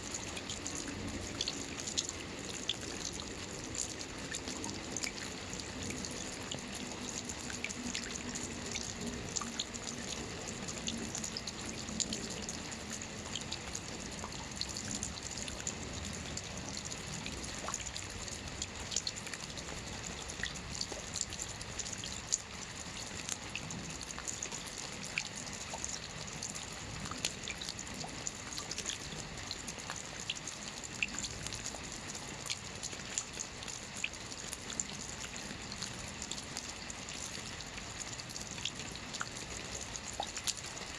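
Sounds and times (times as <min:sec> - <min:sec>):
rain falling on a lake: 0:00.0 - 0:40.9.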